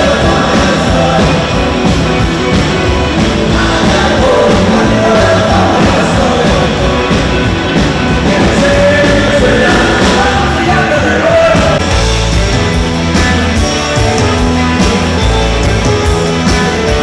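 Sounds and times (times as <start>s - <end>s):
rock and roll song: 0.0s - 17.0s.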